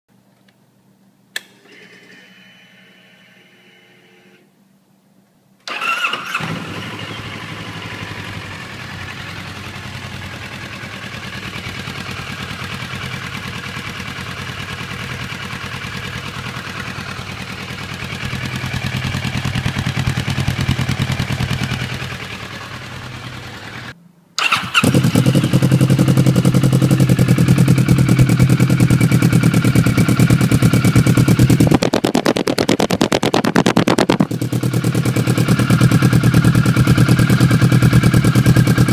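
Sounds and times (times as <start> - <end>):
motorcycle engine idling: 6.5 - 38.9.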